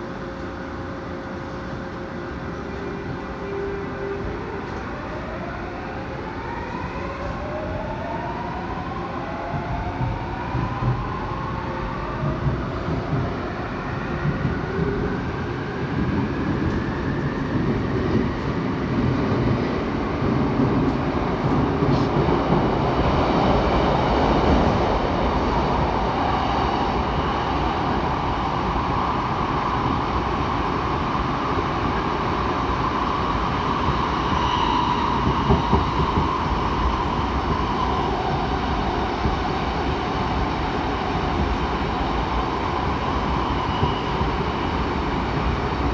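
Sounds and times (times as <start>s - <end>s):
train wheels running on rails: 0.0s - 45.9s.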